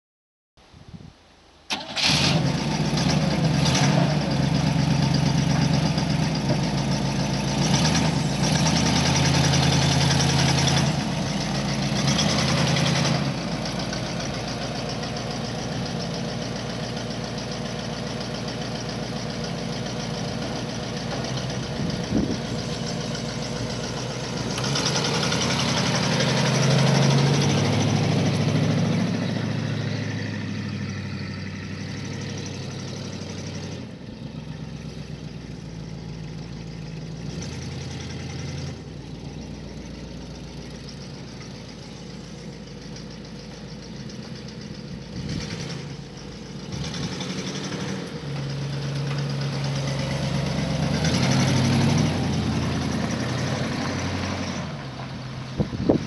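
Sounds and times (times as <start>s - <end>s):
car engine idling: 1.7s - 47.2s, 47.8s - 56.0s.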